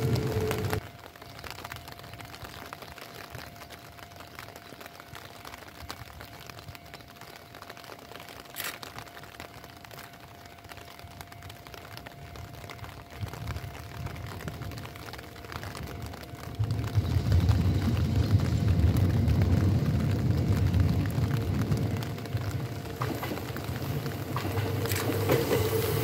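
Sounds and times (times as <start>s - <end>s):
faint hiss with tiny crackles: 0.0s - 26.0s.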